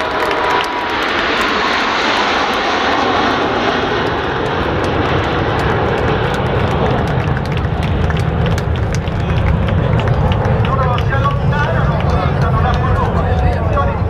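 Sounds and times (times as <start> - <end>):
deep rumble: 0.0 - 14.0
jets roaring overhead: 0.0 - 14.0.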